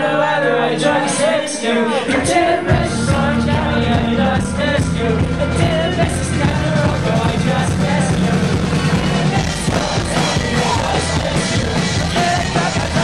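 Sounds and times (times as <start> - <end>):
person singing: 0.0 - 13.0
live rock band playing: 2.4 - 13.0.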